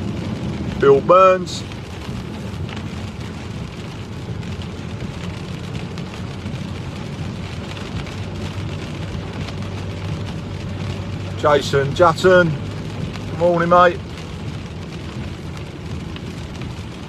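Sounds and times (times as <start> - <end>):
engine and road rumble: 0.0 - 17.0
rain on car: 0.0 - 17.0
tyres hissing on wet road: 0.0 - 17.0.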